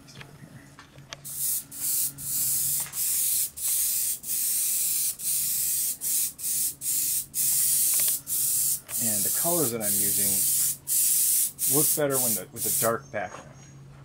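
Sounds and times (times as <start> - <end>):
airbrush spraying hiss: 1.2 - 13.0.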